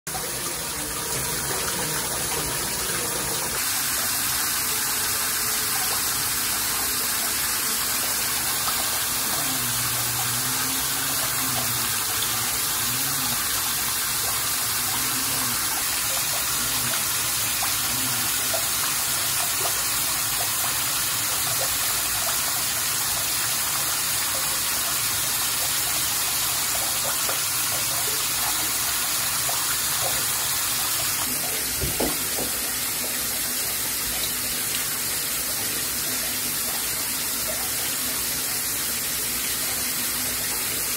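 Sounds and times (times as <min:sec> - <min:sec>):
shower running: 0:00.1 - 0:40.9.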